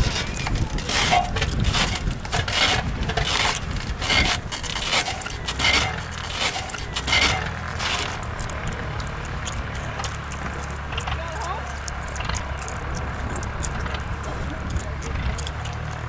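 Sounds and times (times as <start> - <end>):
biplane engine droning: 0.0 - 16.0
scraping rubbing noises: 0.0 - 16.0.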